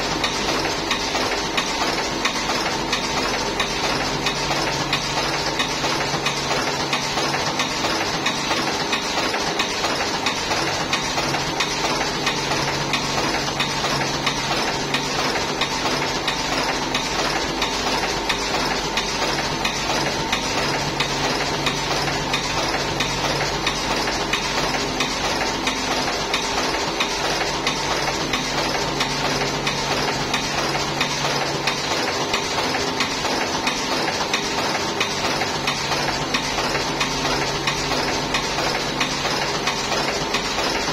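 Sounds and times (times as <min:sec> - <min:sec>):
machine fast ticking clatter: 0:00.0 - 0:40.9.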